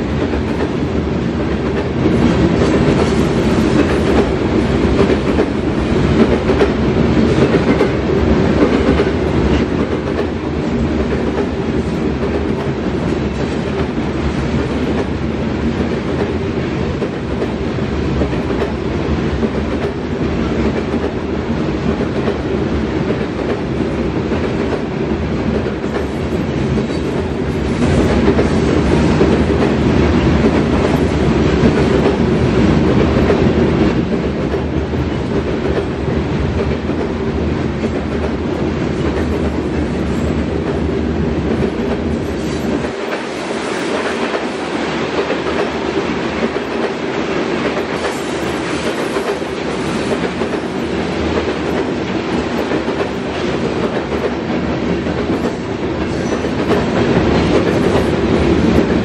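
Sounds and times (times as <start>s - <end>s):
freight train rumble: 0.0s - 59.0s
train wheels clicking over rail joints: 0.1s - 59.0s.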